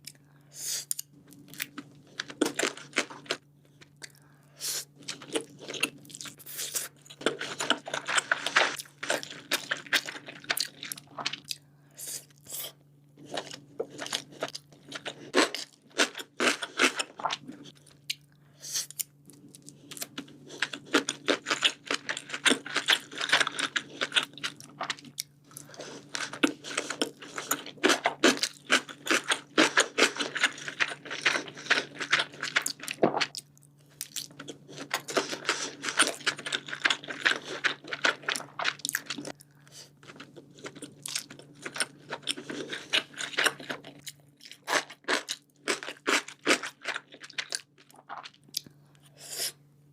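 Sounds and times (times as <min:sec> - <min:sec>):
chewing and biting food: 0:01.3 - 0:04.2, 0:05.0 - 0:11.6, 0:13.2 - 0:18.3, 0:19.0 - 0:48.8.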